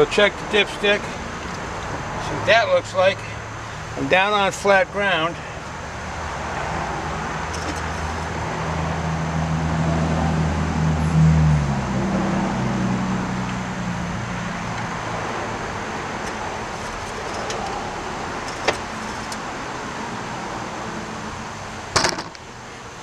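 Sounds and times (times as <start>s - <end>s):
motor vehicle hum: 0.0s - 23.0s.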